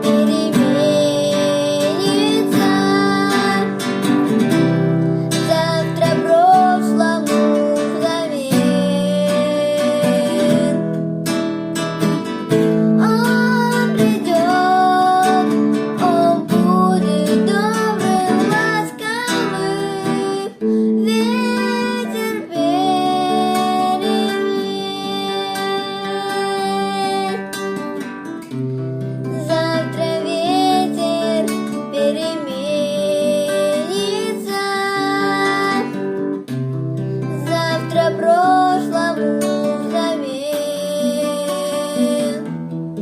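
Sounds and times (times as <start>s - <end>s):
person singing: 0.0s - 11.1s, 12.1s - 27.6s, 28.5s - 43.0s
classical guitar chords: 0.0s - 43.0s.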